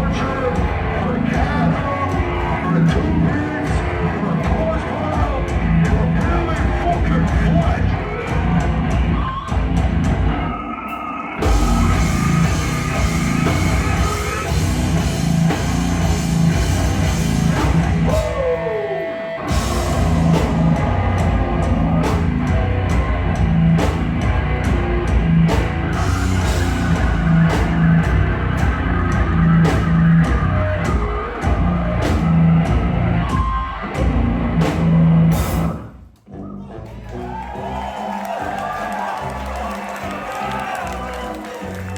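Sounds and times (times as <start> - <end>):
heavy distorted band playing: 0.0 - 41.9.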